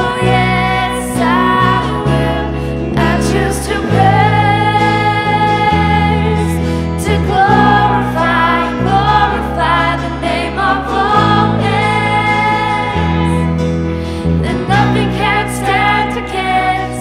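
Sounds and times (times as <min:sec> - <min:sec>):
band playing worship song: 0:00.0 - 0:17.0
person singing: 0:00.0 - 0:17.0.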